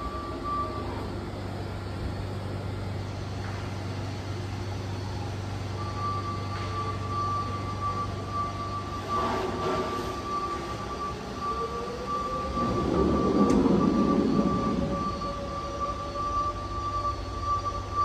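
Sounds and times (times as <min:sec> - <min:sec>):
machine shop hum: 0:00.0 - 0:18.0
thin high whine: 0:03.1 - 0:18.0.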